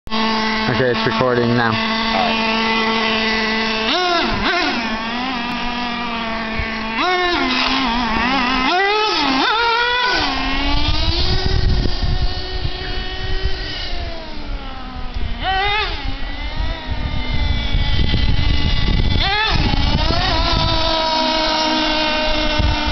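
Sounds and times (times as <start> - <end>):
nitro engine buzzing and revving: 0.1 - 22.9.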